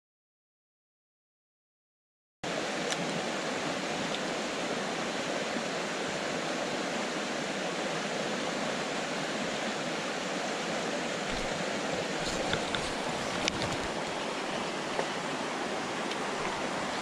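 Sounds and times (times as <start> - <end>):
stream water rushing: 2.4 - 17.0.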